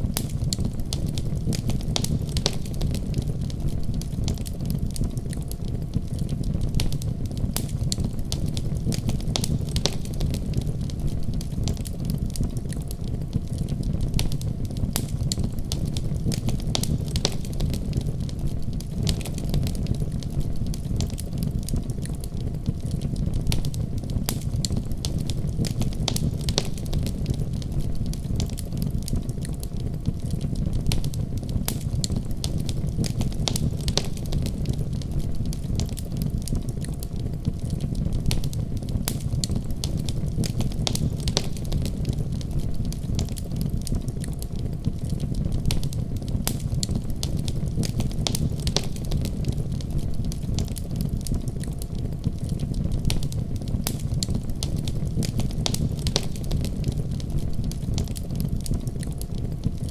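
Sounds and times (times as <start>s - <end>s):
fire crackles and pops: 0.0s - 59.9s
wood fire burning: 0.0s - 59.9s.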